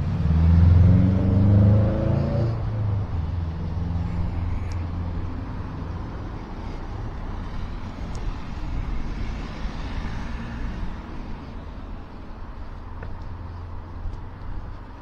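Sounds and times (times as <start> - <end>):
cars passing on street: 0.0 - 15.0.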